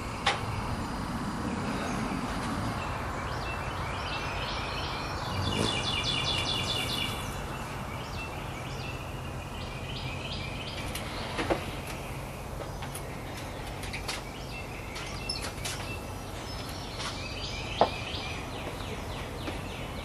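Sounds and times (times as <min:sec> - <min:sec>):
birds chirping and singing: 0:00.0 - 0:20.0
outdoor background noise: 0:00.0 - 0:20.0.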